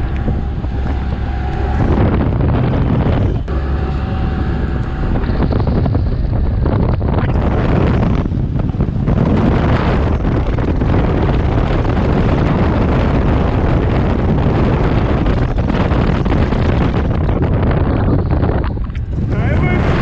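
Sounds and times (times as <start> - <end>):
outboard motor: 0.0 - 20.0
water rushing past hull: 0.0 - 20.0
wind buffeting microphone: 0.0 - 20.0.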